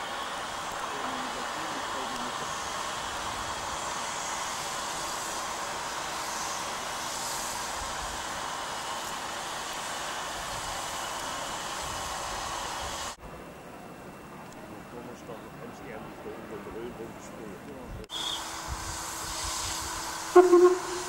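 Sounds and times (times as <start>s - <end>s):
steady steam hiss: 0.0s - 21.0s
steam locomotive working hard: 0.0s - 21.0s.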